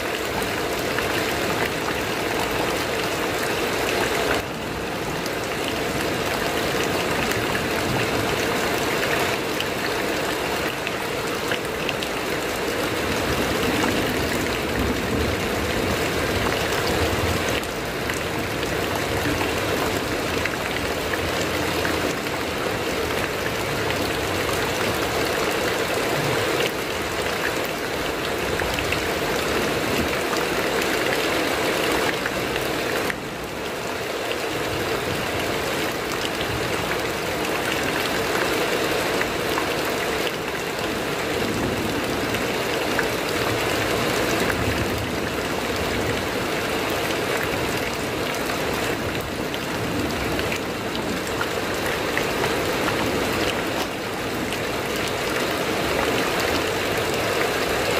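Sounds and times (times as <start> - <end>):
heavy rain on a metal roof: 0.0 - 57.9.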